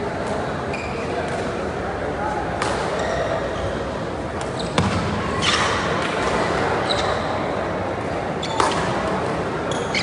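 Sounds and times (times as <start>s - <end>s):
echoing sports hall noise: 0.0s - 10.0s.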